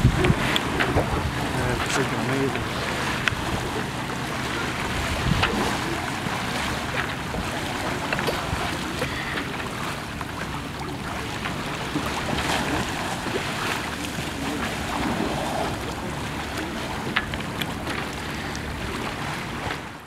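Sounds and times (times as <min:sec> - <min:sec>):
water sloshing and splashing: 0:00.0 - 0:20.0
wind on microphone: 0:00.0 - 0:20.0.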